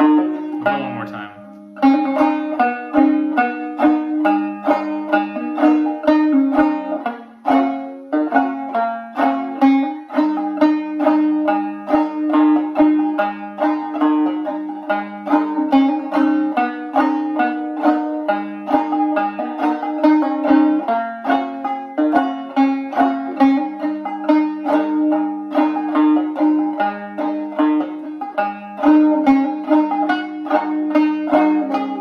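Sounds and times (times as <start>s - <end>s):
banjo plucked with drone strings: 0.0s - 32.0s.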